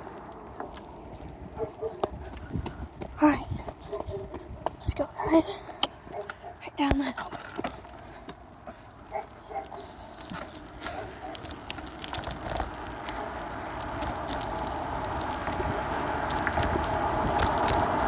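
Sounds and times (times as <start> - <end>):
bicycle clicks and rattles: 0.0 - 18.0
bicycle tyre noise: 0.0 - 18.0.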